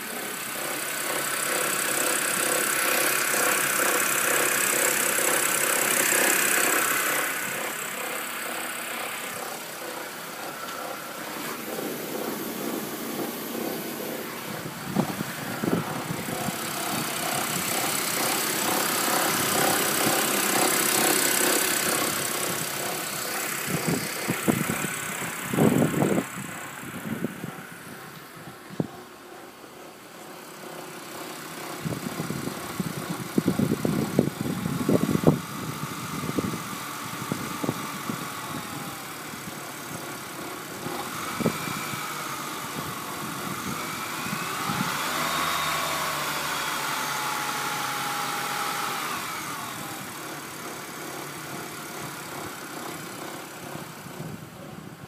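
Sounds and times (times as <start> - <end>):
car engine idling with vibration: 0.0 - 55.0.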